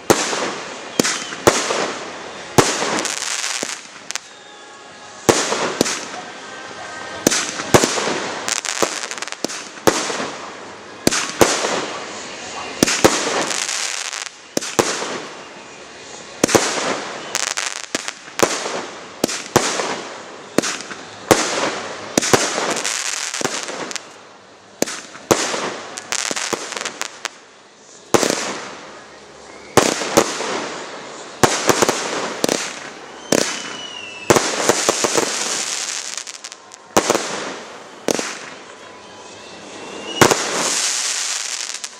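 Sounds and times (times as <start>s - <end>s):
fireworks bursting with bangs: 0.0s - 41.9s
fireworks hiss: 0.0s - 41.9s.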